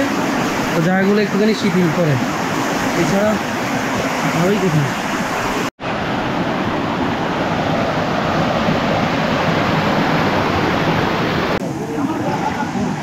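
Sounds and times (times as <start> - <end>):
stream water flowing over rocks: 0.0 - 13.0.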